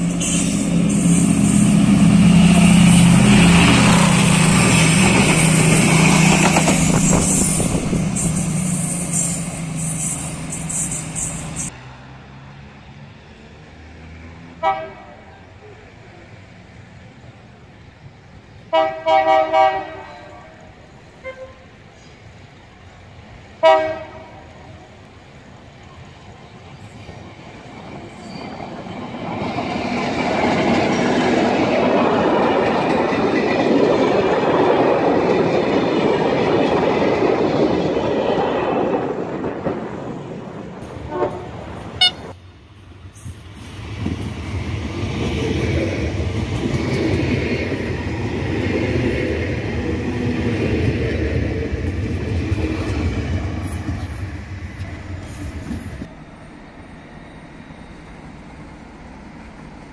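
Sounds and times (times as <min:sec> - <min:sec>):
diesel train passing on rails: 0:00.0 - 0:59.9
train passing with deep rumble: 0:00.0 - 0:59.9.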